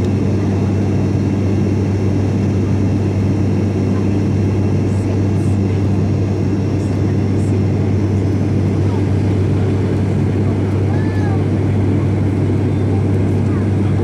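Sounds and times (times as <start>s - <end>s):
turboprop engine drone in cabin: 0.0s - 14.0s.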